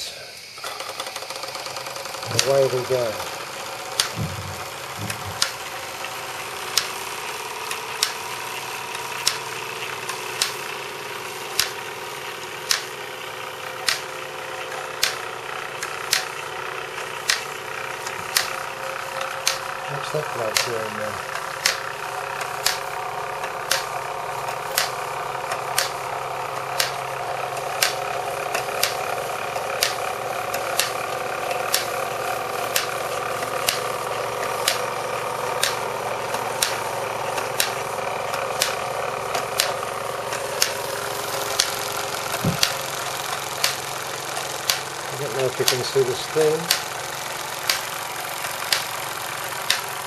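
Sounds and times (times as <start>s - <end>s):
toy steam engine whirring: 0.0s - 50.0s
sharp mechanical clicks: 0.5s - 50.0s.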